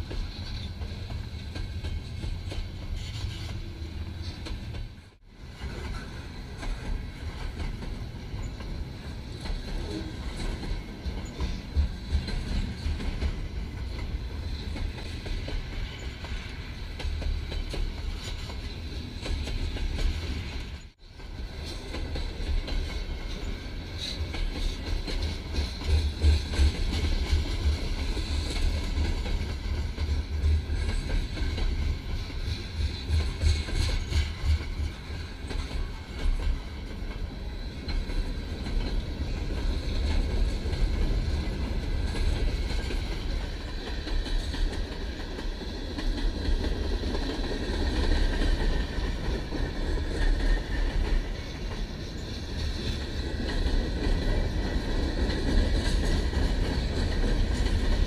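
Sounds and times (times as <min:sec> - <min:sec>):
freight train rolling on rails: 0:00.0 - 0:58.0.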